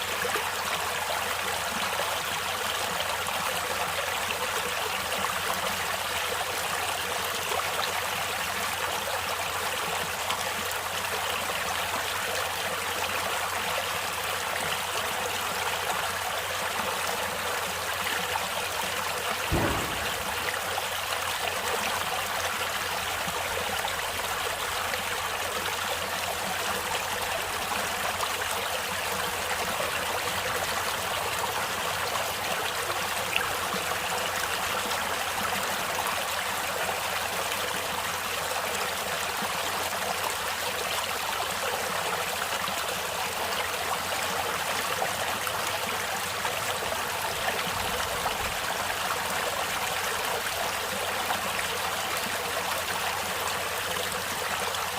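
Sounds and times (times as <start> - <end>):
stream flowing over stones: 0.0 - 54.9.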